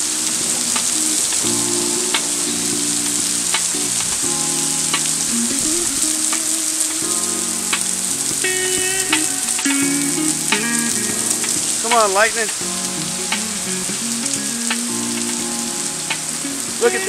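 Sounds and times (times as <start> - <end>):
heavy rain pouring: 0.0 - 17.0
music playing: 0.0 - 17.0.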